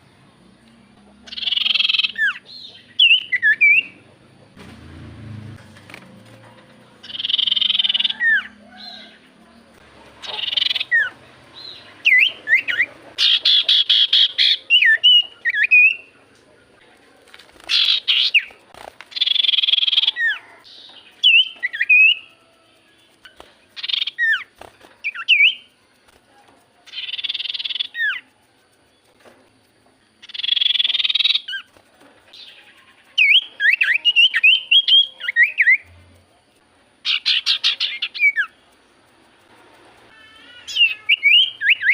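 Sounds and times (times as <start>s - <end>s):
bird harsh buzzy chatters: 1.2s - 4.0s, 7.0s - 8.5s, 9.7s - 22.3s, 23.0s - 41.9s.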